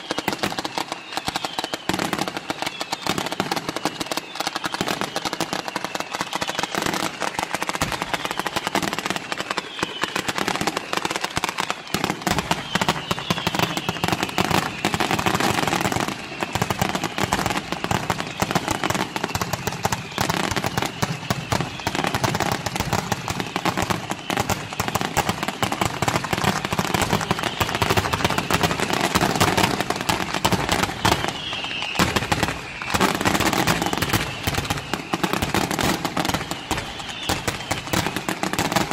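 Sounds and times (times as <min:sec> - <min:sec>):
fireworks crackling and banging: 0:00.0 - 0:38.9.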